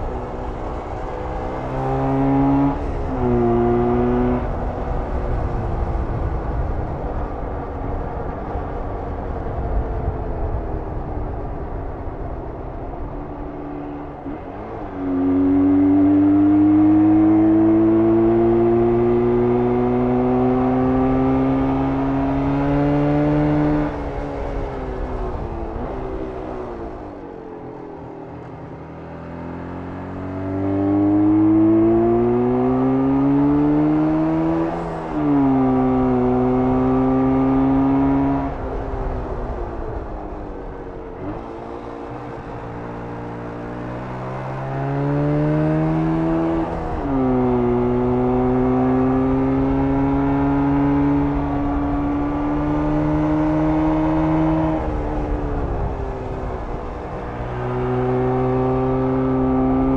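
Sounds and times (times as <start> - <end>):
motorcycle engine revving: 0.0 - 6.6, 13.7 - 27.2, 28.0 - 59.9.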